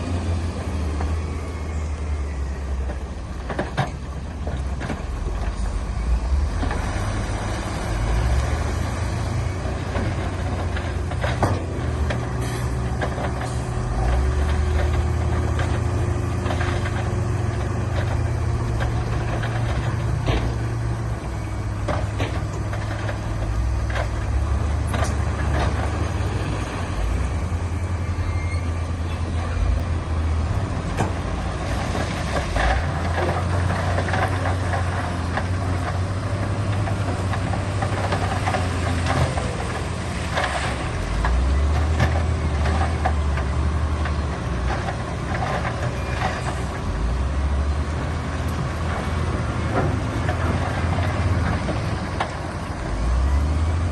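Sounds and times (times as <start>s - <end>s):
heavy machinery diesel engines: 0.0s - 53.9s.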